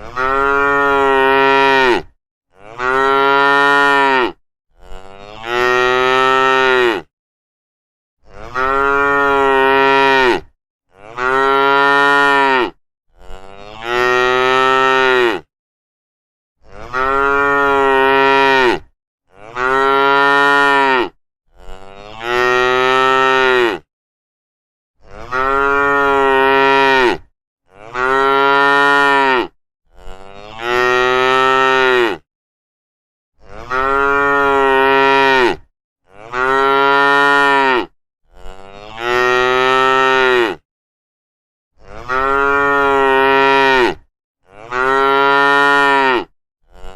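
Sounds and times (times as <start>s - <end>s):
cows mooing: 0.0s - 7.1s, 8.3s - 15.5s, 16.8s - 23.8s, 25.2s - 32.2s, 33.5s - 40.6s, 41.9s - 46.9s.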